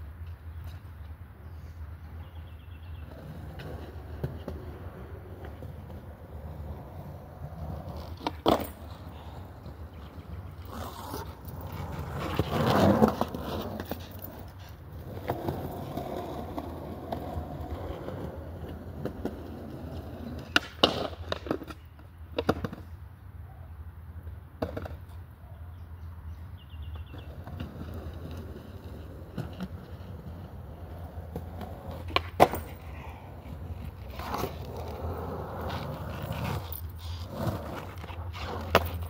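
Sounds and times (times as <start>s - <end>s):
skateboard wheels rumbling: 1.8s - 23.0s, 24.2s - 25.3s, 26.5s - 39.0s
skateboard clacking on ground: 3.0s - 23.0s, 24.6s - 25.2s, 26.9s - 39.0s.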